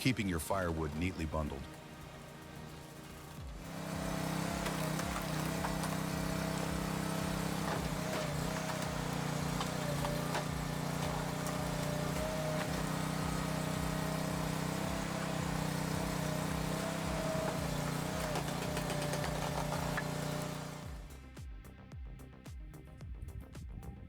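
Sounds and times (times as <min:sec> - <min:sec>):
machine engine running steadily: 0:00.8 - 0:21.1.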